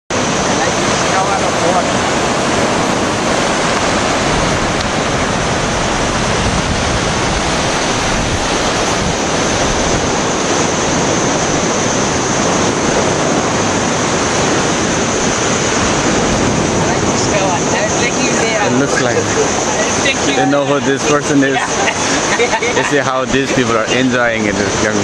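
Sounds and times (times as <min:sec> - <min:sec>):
ocean waves rushing: 0:00.1 - 0:25.0.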